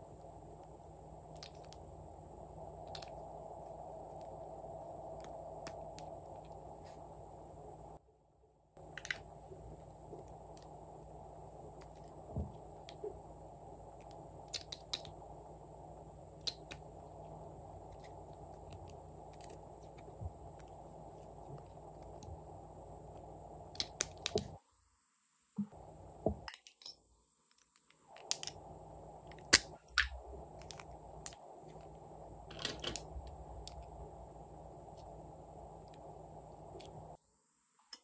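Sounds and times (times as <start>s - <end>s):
low steady hiss: 0.0s - 38.0s.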